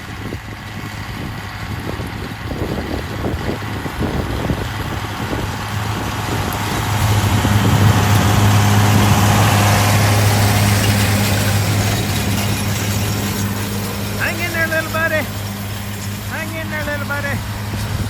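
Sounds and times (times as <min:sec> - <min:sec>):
engine humming: 0:00.0 - 0:18.0
rushing noise: 0:01.0 - 0:18.0.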